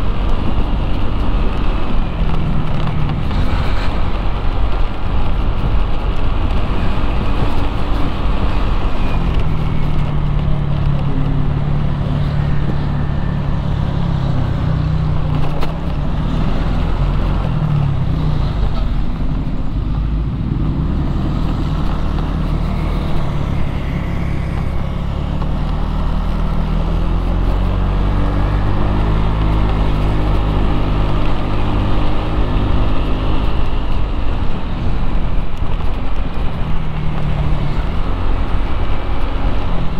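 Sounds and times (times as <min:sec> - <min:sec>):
road and traffic noise: 0:00.0 - 0:39.9.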